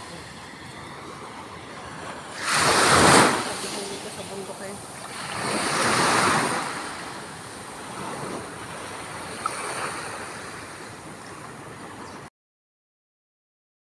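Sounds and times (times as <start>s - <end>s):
ocean surf washing in: 0.0s - 12.2s.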